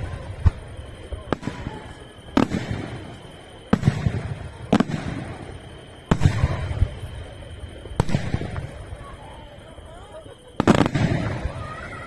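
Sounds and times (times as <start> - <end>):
firework shells bursting: 0.0 - 9.4, 10.5 - 12.0
low rolling echo: 0.0 - 12.0.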